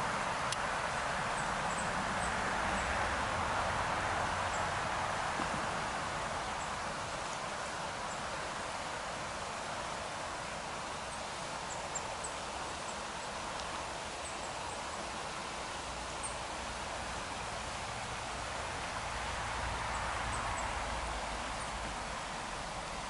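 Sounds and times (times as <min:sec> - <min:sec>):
woodland hiss: 0:00.0 - 0:23.0.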